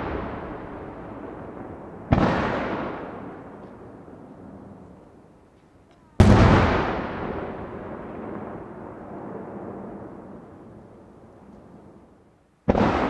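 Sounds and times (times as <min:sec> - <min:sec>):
firework bangs: 0:00.0 - 0:05.0, 0:05.9 - 0:13.0.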